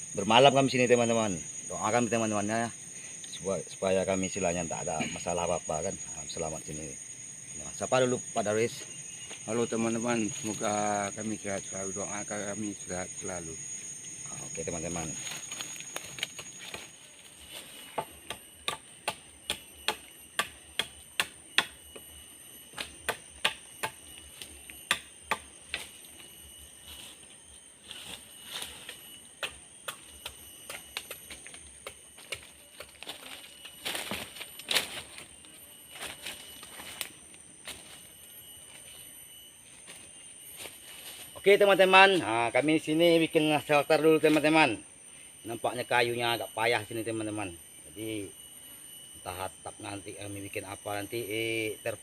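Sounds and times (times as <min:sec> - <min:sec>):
high-pitched insect drone: 0:00.0 - 0:52.0.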